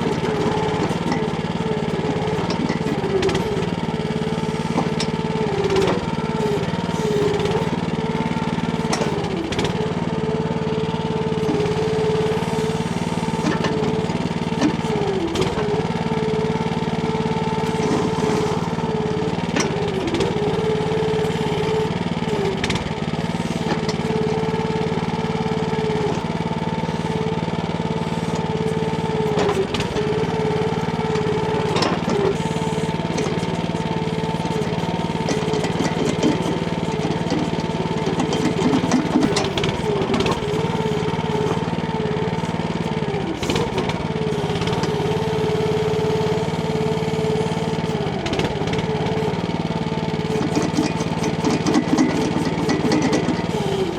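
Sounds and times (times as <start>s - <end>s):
small petrol engine running: 0.0s - 53.9s.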